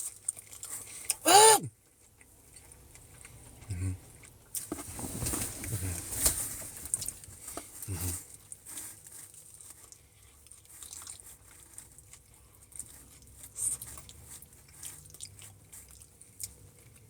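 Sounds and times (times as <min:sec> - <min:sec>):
person chewing pizza: 0:00.0 - 0:04.7, 0:07.0 - 0:17.0.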